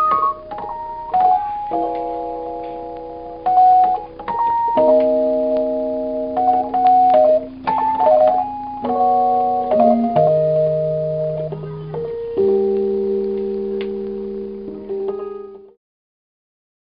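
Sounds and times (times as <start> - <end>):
electric piano chords: 0.0 - 15.8.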